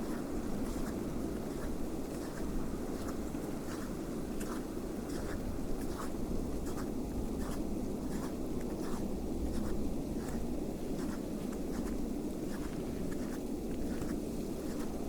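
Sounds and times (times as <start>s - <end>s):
footsteps crunching in snow: 0.0s - 15.0s
wind rumble on microphone: 0.0s - 15.0s.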